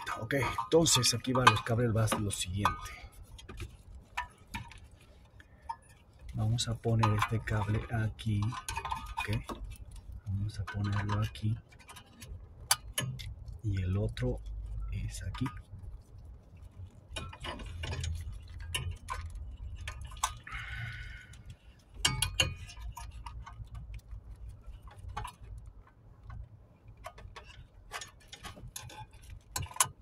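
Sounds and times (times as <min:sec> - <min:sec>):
scraping rustle: 0:00.0 - 0:30.0.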